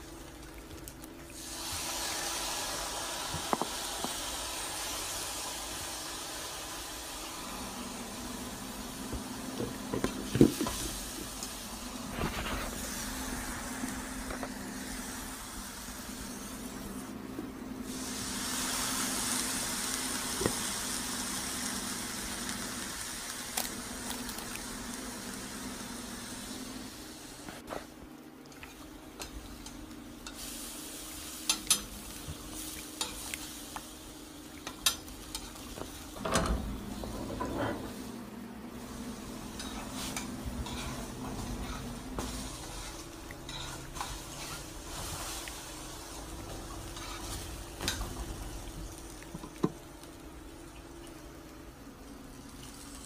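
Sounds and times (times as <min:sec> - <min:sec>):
food sizzling in oil: 0:01.4 - 0:17.0, 0:17.8 - 0:27.4, 0:29.2 - 0:36.2, 0:38.8 - 0:49.2.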